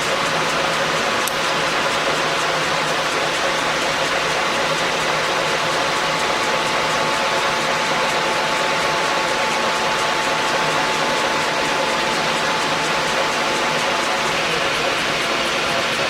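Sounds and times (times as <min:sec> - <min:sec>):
lathe running with high whine: 0:00.0 - 0:16.0.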